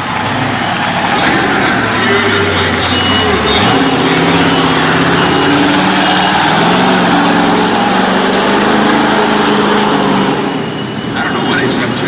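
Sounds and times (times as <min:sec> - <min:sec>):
monster truck engine running hard: 0:00.0 - 0:12.0.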